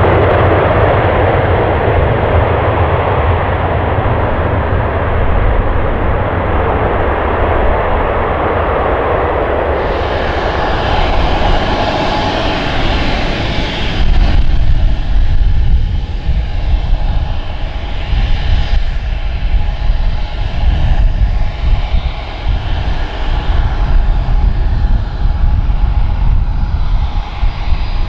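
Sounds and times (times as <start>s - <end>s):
jet engines: 0.0s - 28.0s.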